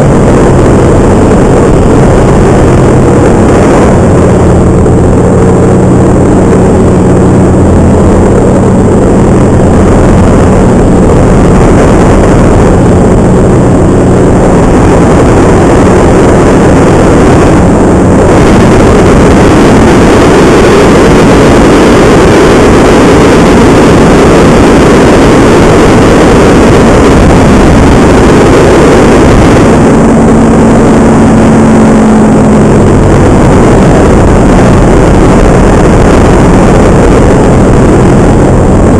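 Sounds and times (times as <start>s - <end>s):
paramotor engine and propeller: 0.0s - 38.9s
wind noise: 0.0s - 38.9s.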